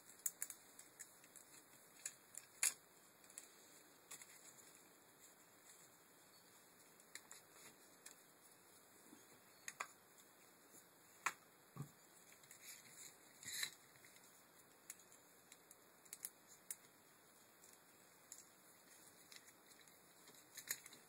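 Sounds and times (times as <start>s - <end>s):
cables rustling: 0.0s - 21.0s.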